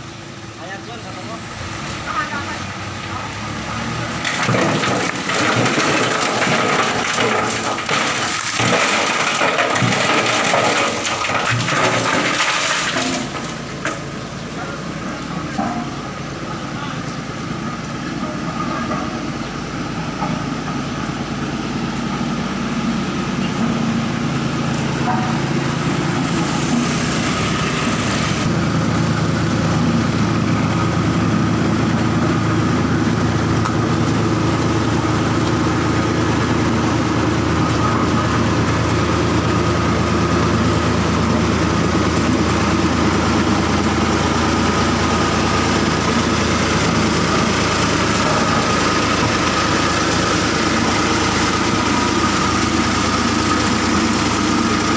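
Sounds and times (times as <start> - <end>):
heavy engine running: 0.0 - 54.9.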